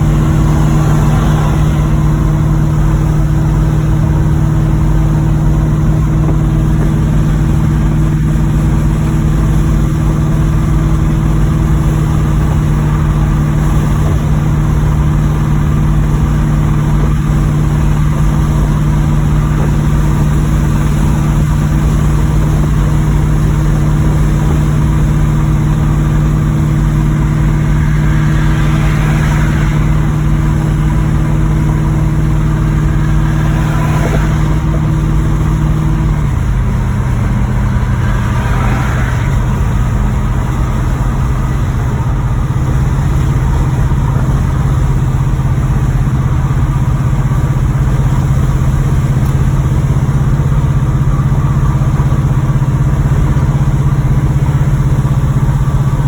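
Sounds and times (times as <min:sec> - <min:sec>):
car engine low drone: 0:00.0 - 0:56.0.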